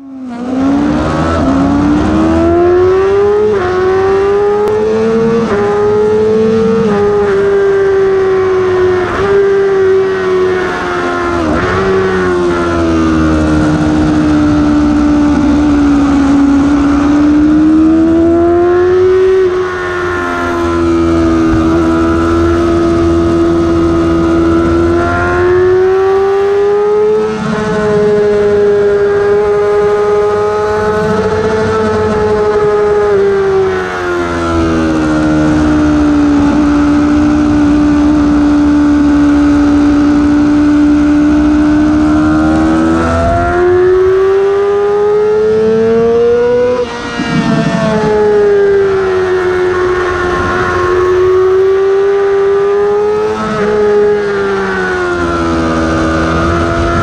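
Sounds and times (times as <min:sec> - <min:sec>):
motorcycle engine revving through upshifts: 0:00.0 - 0:57.0.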